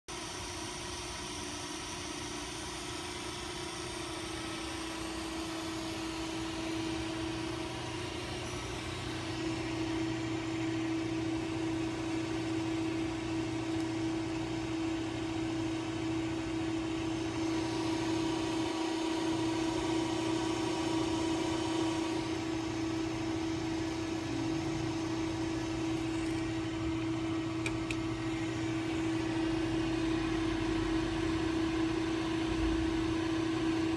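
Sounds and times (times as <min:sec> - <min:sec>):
machine electric hum: 0:00.1 - 0:33.9.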